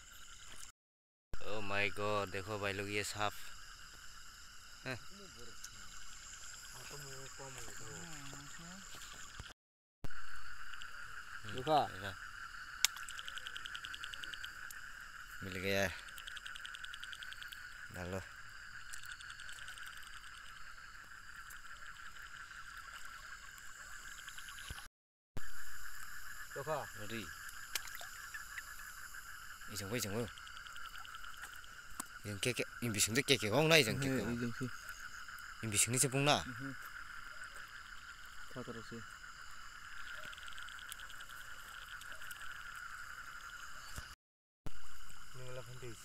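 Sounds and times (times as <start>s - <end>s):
frogs and insects droning: 0.0s - 0.7s, 1.4s - 46.0s
rapid pulsed frog calls: 0.0s - 0.7s, 1.4s - 46.0s.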